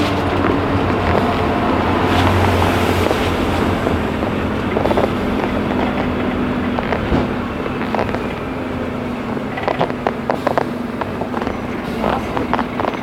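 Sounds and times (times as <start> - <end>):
bus engine drone: 0.0 - 13.0
road noise: 0.0 - 13.0
wind noise: 0.0 - 13.0.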